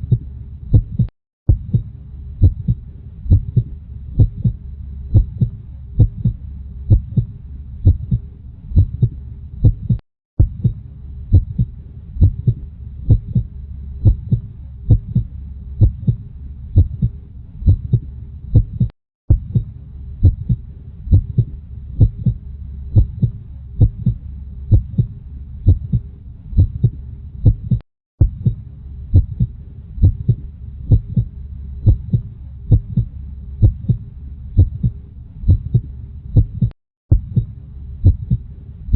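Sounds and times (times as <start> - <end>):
heartbeat thumps: 0.0 - 38.5
low steady hum: 0.0 - 38.9.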